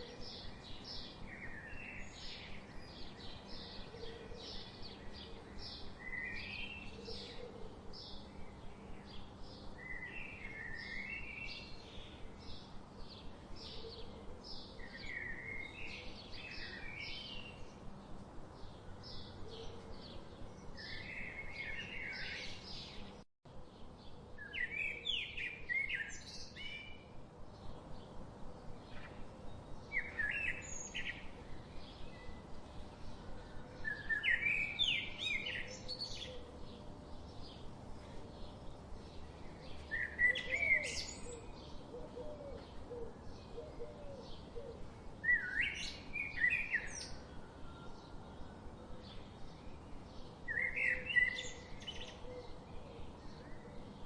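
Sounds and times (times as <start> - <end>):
songbird singing: 0.0 - 54.0
steady background hiss: 0.0 - 54.0.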